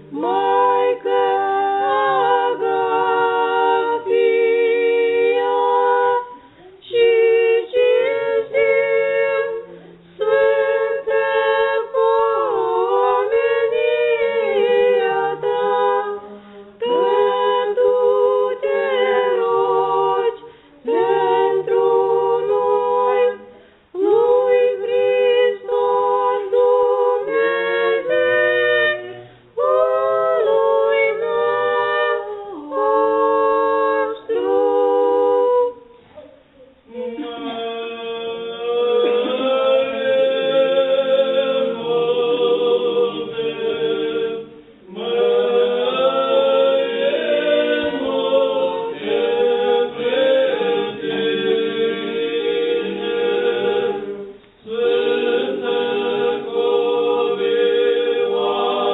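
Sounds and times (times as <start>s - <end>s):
choir singing unaccompanied: 0.0s - 58.9s.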